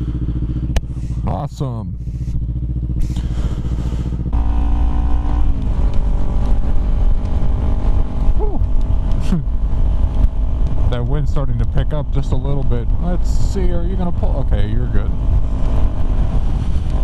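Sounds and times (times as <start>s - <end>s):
motorcycle engine running: 0.0s - 17.0s
wind rumble on microphone: 2.0s - 17.0s.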